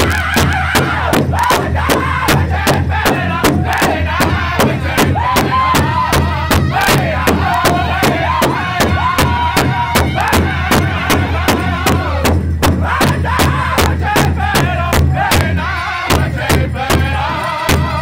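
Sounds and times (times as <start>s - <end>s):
group singing in high voices: 0.0s - 18.0s
large drum beaten in unison: 0.0s - 18.0s.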